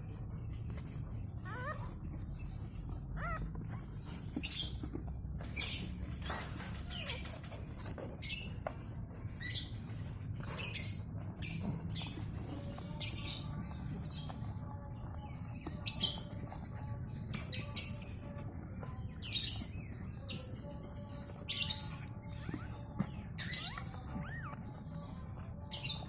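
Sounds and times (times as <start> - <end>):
puppies squeaking: 0.0 - 26.0.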